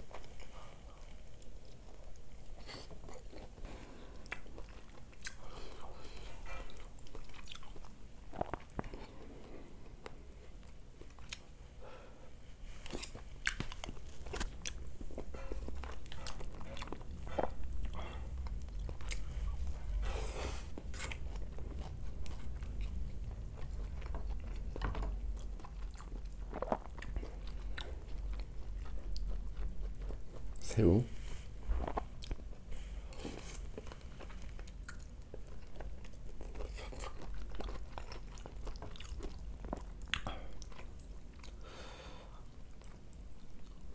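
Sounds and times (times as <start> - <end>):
person chewing crunchy food: 0.0 - 30.7, 31.4 - 43.9.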